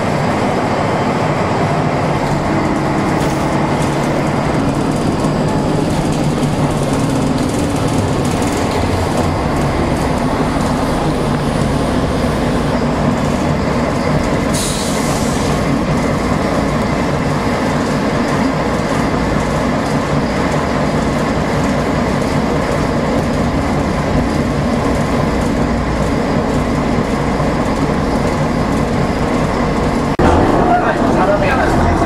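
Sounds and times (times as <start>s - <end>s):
bus body rattling: 0.0s - 32.0s
bus diesel engine: 0.0s - 32.0s.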